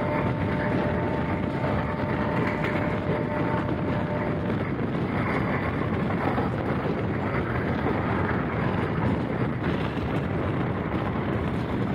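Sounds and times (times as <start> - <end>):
train wheels rumbling on track: 0.0 - 11.9
wind rushing over microphone: 0.0 - 11.9.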